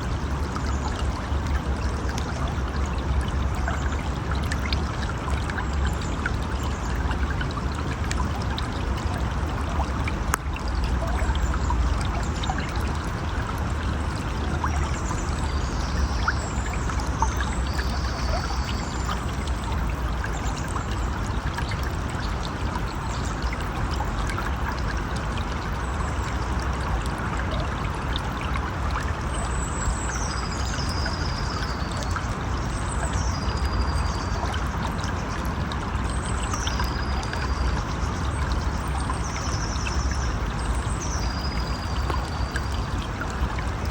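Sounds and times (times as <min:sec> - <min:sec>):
river water running: 0:00.0 - 0:43.9.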